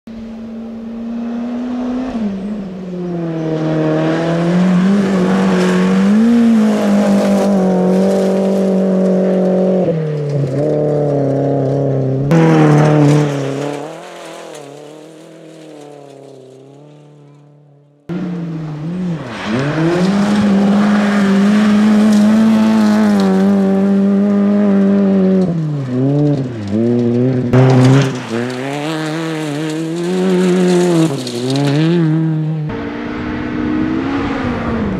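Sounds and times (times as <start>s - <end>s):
rally car engine at full throttle: 0.1s - 34.9s.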